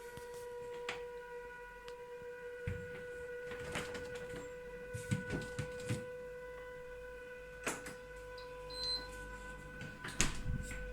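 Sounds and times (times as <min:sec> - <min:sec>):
refrigerator high-pitched whine: 0:00.0 - 0:10.9.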